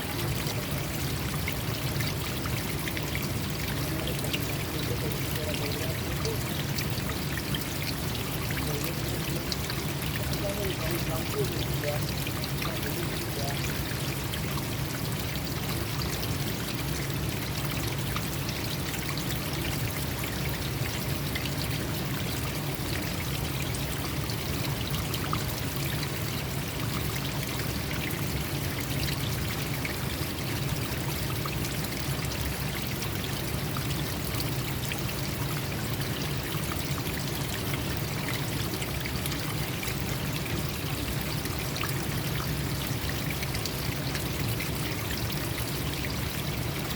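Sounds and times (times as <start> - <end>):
stream water flowing: 0.0 - 46.9.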